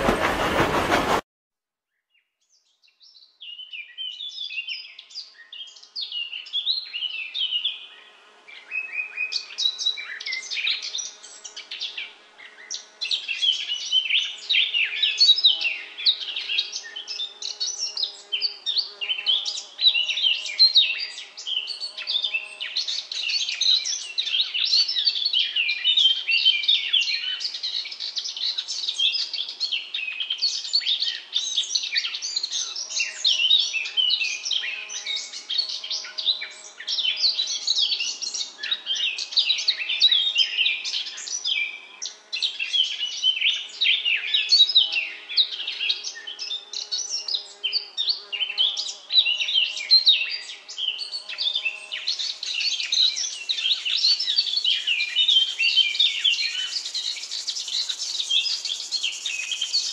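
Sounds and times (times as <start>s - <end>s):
small birds chirping: 2.4s - 59.9s.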